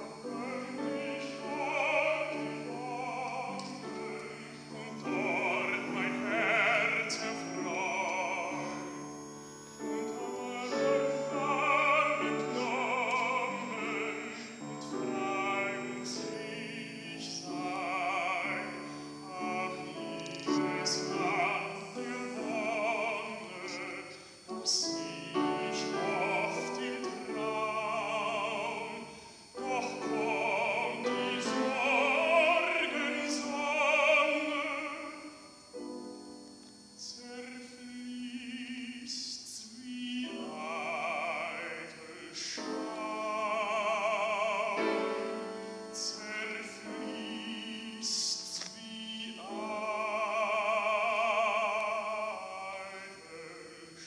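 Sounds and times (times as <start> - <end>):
baritone singing with vibrato: 0.0 - 35.8, 36.8 - 54.0
grand piano: 0.0 - 54.0.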